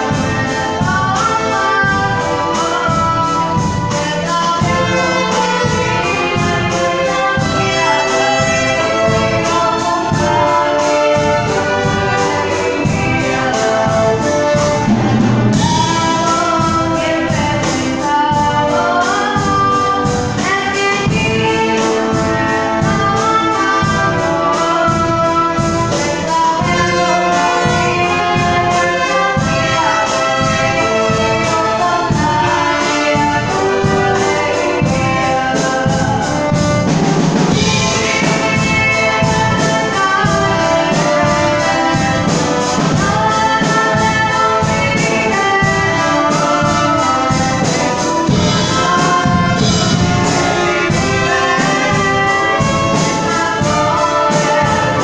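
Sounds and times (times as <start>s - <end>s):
symphony orchestra playing: 0.0s - 55.0s.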